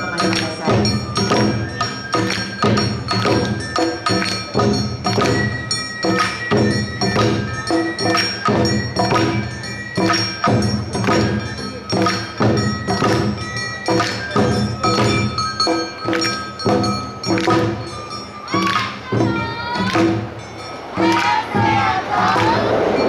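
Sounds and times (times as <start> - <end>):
drums beating: 0.0 - 23.0.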